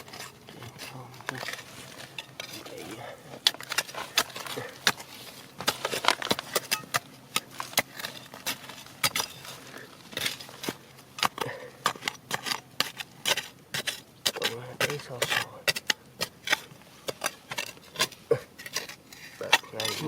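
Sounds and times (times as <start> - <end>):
stones and gravel clattering: 0.0 - 20.0.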